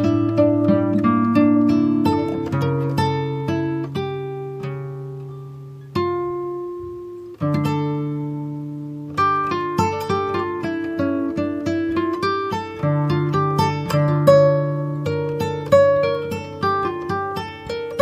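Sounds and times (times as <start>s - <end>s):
plucked guitar: 0.0s - 18.0s.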